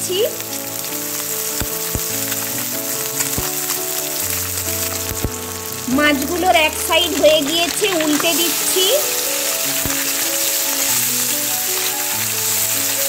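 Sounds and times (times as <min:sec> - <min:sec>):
fish sizzling in hot oil: 0:00.0 - 0:13.0
oil popping: 0:00.0 - 0:13.0
soft instrumental music: 0:00.0 - 0:13.0.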